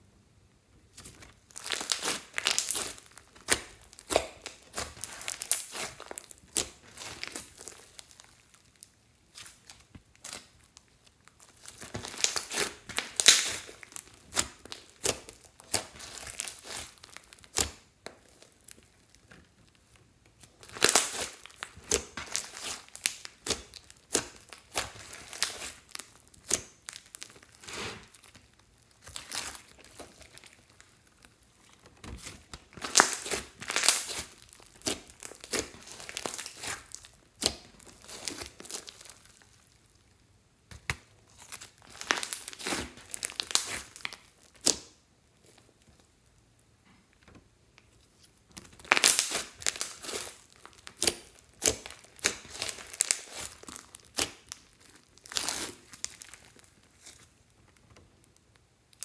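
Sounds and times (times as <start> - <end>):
slime crackling and popping: 0.9 - 59.0.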